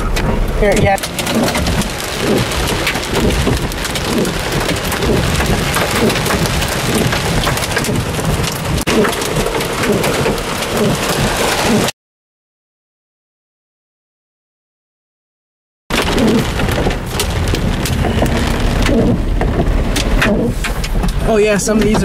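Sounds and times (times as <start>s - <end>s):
rain and hail pelting car roof: 0.0s - 11.9s, 15.9s - 22.0s.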